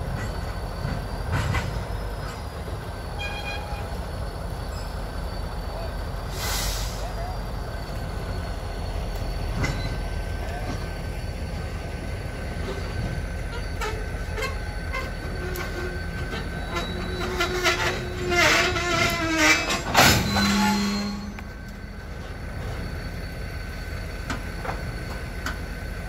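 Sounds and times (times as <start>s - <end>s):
wavering wheel squeal: 0.0s - 6.4s, 7.0s - 11.9s, 12.6s - 25.2s
freight train rumble: 0.0s - 26.0s
train clanks: 0.0s - 26.0s.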